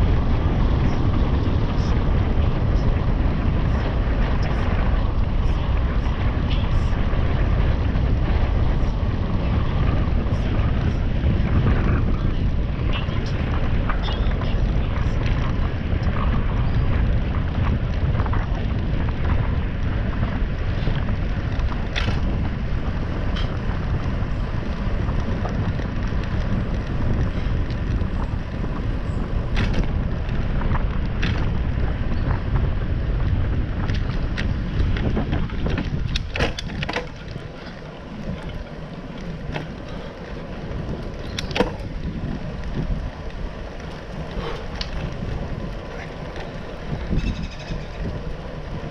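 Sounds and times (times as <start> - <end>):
bicycle tyres rolling on pavement: 0.0 - 48.9
bike clicks and rattles: 0.0 - 48.9
wind rumbling on microphone: 0.0 - 48.9.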